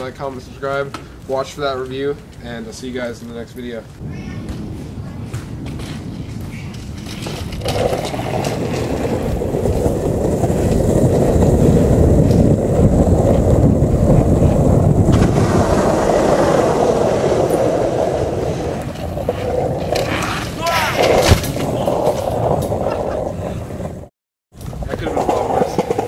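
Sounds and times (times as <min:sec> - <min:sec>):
wheels rolling on asphalt: 0:00.0 - 0:26.0
wind on microphone: 0:00.0 - 0:26.0.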